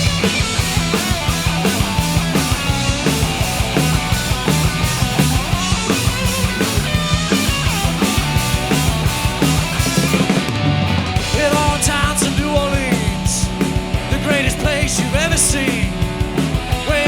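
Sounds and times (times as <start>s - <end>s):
drum kit beat: 0.0s - 17.0s
rock band playing: 0.0s - 17.0s.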